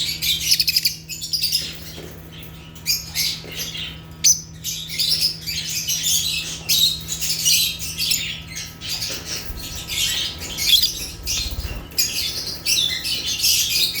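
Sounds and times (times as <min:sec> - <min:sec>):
lovebirds chirping and squawking: 0:00.0 - 0:14.0.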